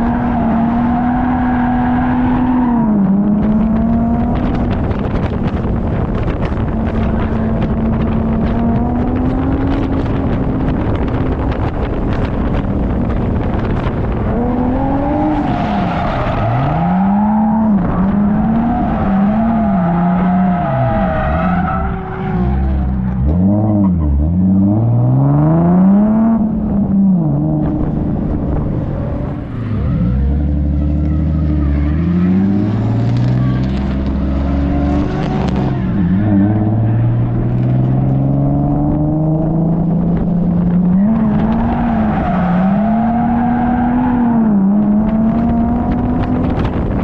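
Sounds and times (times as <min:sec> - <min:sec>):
car engine revving: 0:00.0 - 0:47.0
tyre and road noise: 0:00.0 - 0:47.0.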